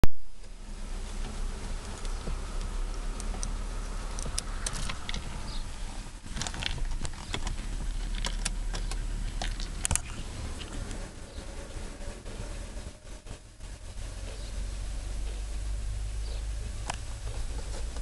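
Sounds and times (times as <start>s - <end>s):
low hum in car cabin: 0.0s - 18.0s.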